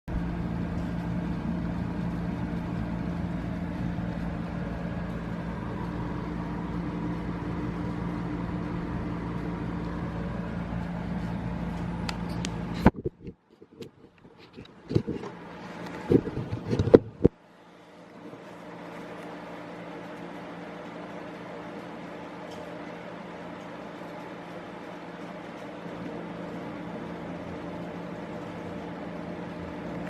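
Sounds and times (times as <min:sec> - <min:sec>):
machine hum with tones: 0:00.1 - 0:30.0.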